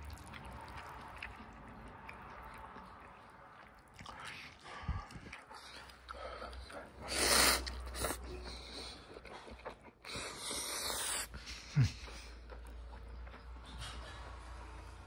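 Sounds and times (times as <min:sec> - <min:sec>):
person eating: 0:00.0 - 0:14.0.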